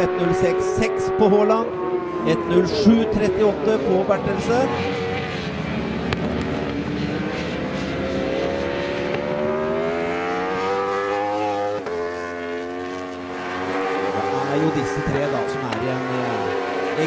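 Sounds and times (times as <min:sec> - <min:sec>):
motorbike engine revving high: 0:00.0 - 0:17.0.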